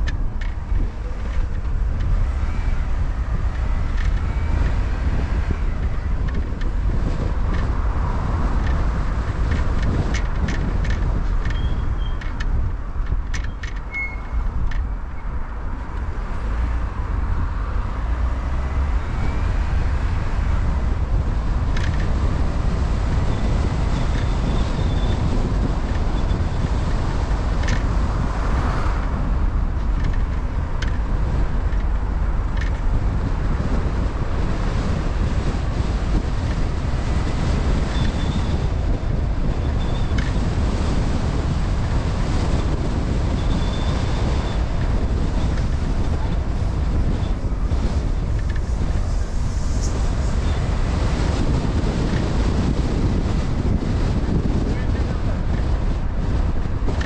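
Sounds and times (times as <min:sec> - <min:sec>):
car road and engine rumble: 0:00.0 - 0:57.0
wind noise on microphone: 0:00.0 - 0:57.0.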